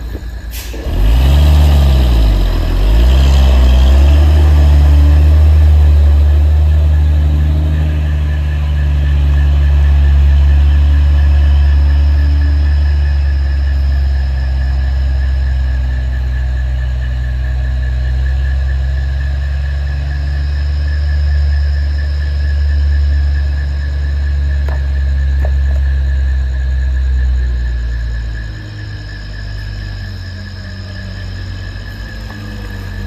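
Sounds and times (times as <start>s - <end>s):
heavy vehicle engine revving: 0.0s - 33.0s.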